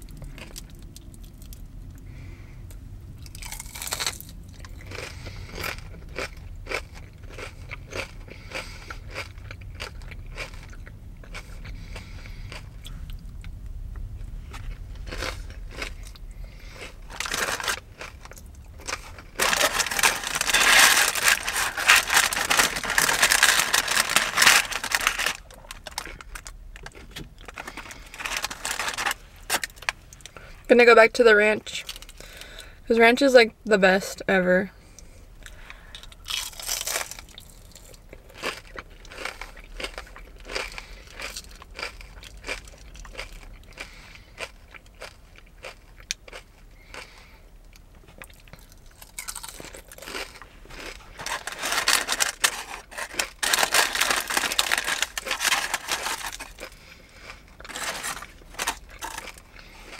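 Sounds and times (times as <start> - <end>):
crunching and chewing onion ring: 0.0 - 30.6, 31.8 - 32.7, 34.8 - 59.9.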